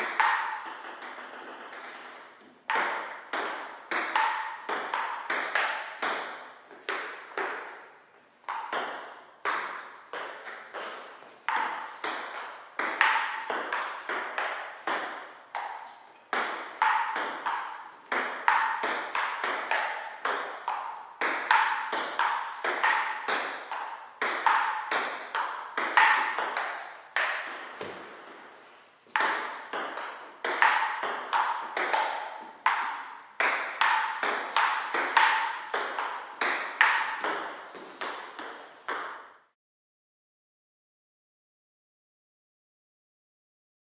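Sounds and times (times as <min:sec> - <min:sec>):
ping pong ball pocking: 0:00.0 - 0:39.5.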